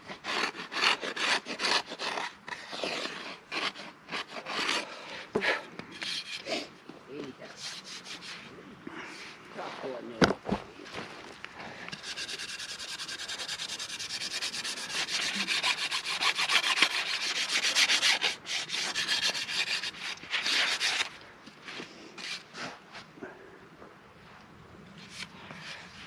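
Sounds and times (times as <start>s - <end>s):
rhythmic scraping on wood: 0.0s - 23.0s.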